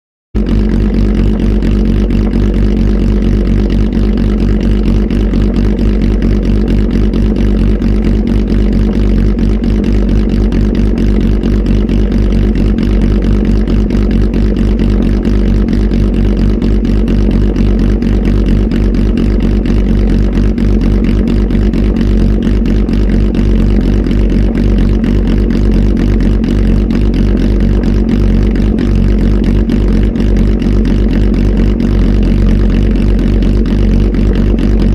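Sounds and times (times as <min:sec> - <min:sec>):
motorcycle engine idling: 0:00.4 - 0:34.9.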